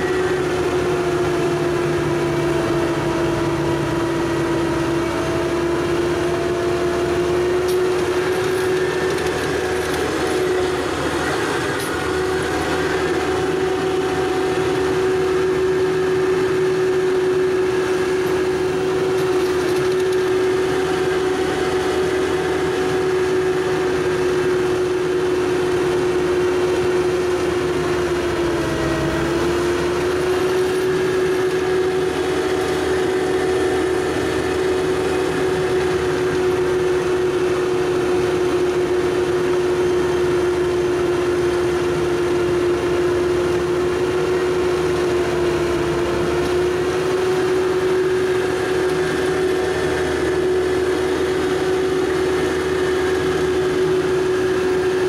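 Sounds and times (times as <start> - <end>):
diesel engine at high revs: 0.0 - 55.0
snowblower whine: 0.0 - 55.0.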